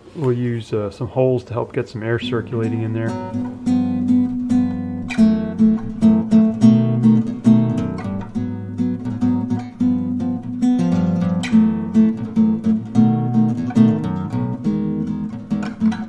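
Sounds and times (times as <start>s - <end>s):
acoustic guitar strumming chords: 2.0s - 16.0s.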